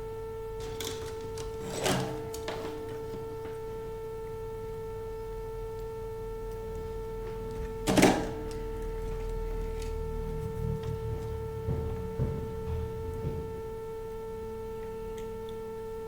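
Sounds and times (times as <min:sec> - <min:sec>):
steady electrical whine: 0:00.0 - 0:16.0.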